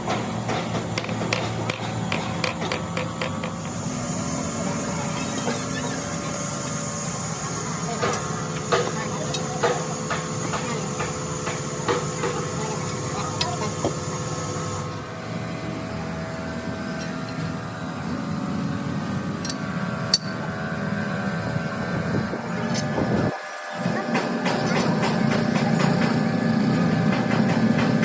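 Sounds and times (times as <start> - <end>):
machine droning: 0.0 - 28.0.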